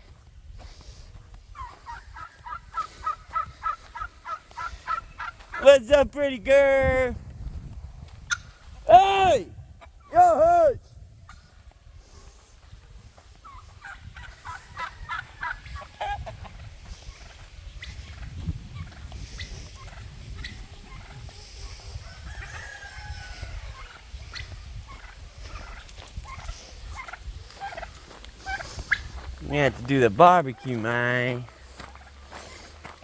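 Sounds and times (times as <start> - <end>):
chickens and turkeys calling: 0.0 - 6.0, 8.2 - 33.0.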